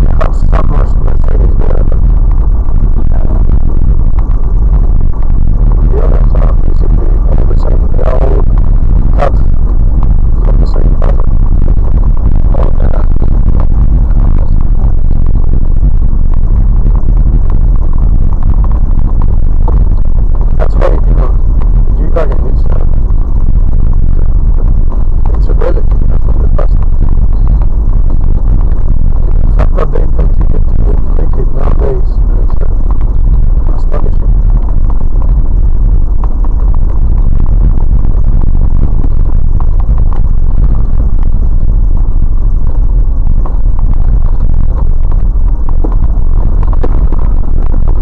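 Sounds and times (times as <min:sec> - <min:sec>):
vehicle engine and tyres rumbling: 0:00.0 - 0:48.0.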